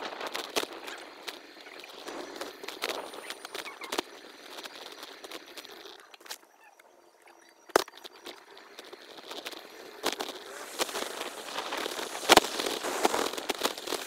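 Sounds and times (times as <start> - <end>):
wind and road noise: 0.0 - 6.5, 7.6 - 14.0.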